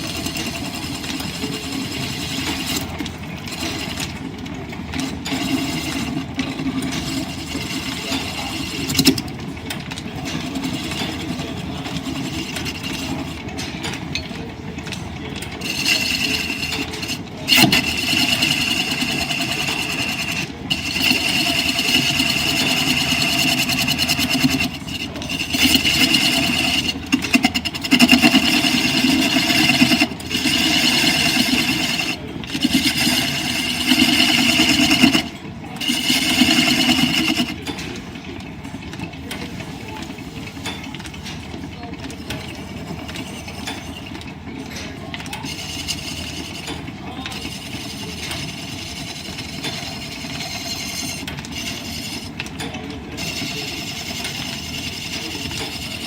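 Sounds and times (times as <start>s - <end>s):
cutting tool scraping spinning wood: 0.0s - 14.3s, 14.9s - 37.6s, 42.1s - 44.4s, 45.3s - 56.0s
lathe and line shaft running: 0.0s - 56.0s.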